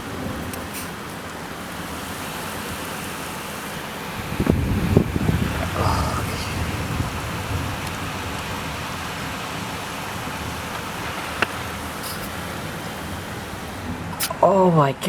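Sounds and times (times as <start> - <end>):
heavy rain pouring: 0.0 - 14.8.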